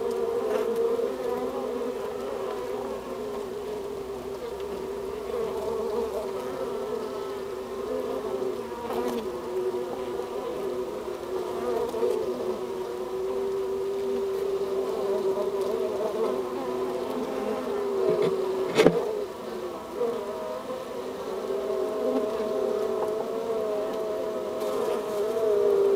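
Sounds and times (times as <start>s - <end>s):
honeybees buzzing: 0.0s - 25.9s.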